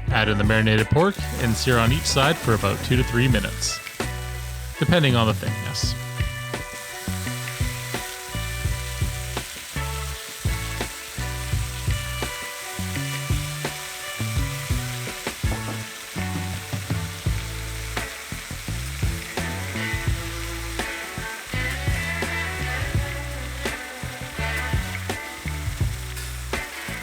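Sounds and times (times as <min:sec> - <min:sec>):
background music with bass line: 0:00.0 - 0:27.0
pork sizzling in a frying pan: 0:01.1 - 0:27.0.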